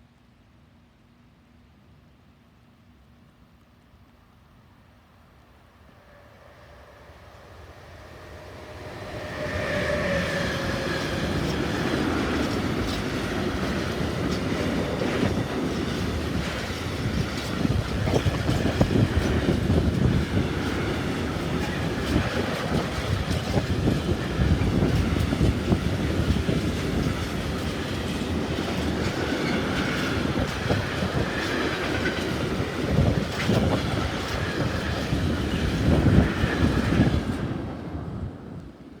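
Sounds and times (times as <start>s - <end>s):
freight train rumbling past: 5.6s - 39.0s.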